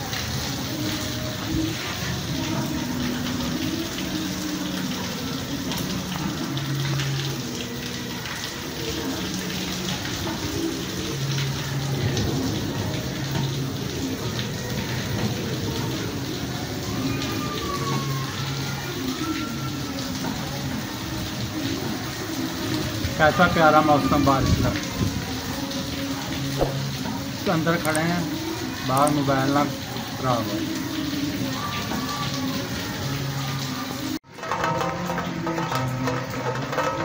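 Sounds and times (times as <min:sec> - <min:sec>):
rain splashing on pavement: 0:00.0 - 0:37.0.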